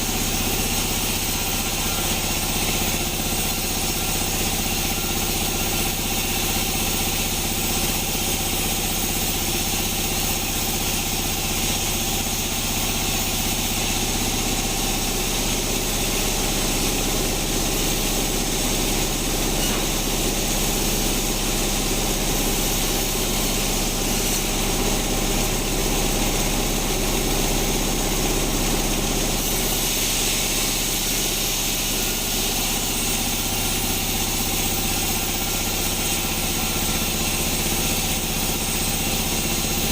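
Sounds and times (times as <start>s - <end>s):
band saw machine drone: 0.0s - 39.9s.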